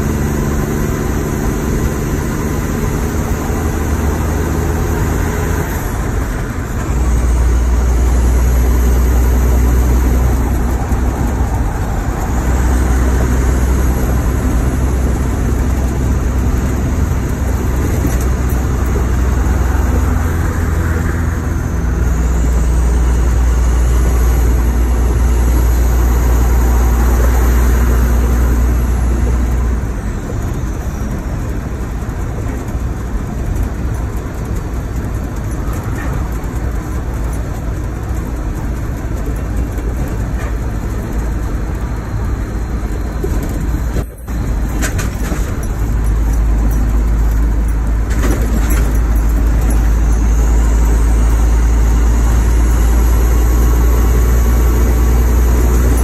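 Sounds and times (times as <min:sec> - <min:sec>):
truck diesel engine pulling: 0:00.0 - 0:56.0.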